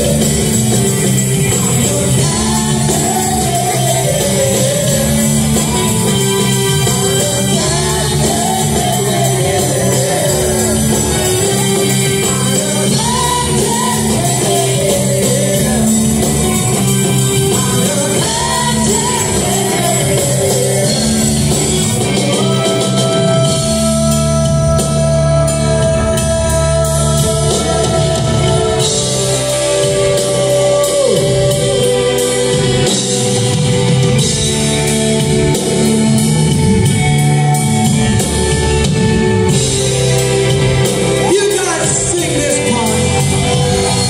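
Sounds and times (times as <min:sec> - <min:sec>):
live rock band playing: 0:00.0 - 0:44.0
person singing lead vocal: 0:00.0 - 0:44.0.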